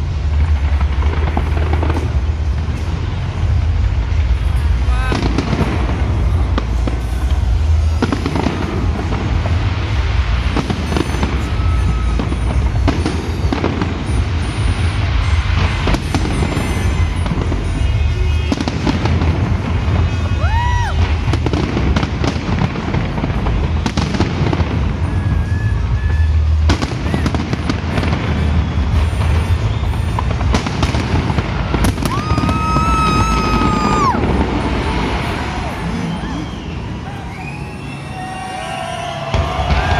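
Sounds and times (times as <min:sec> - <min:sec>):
fireworks booming: 0:00.0 - 0:39.9
fireworks crackling bursts: 0:00.0 - 0:39.9
whistling fireworks: 0:00.0 - 0:39.9.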